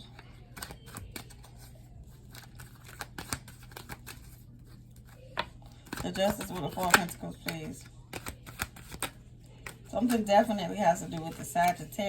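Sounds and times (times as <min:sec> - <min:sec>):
cards clicking and rustling: 0:00.0 - 0:11.9
faint low hum: 0:00.0 - 0:12.0.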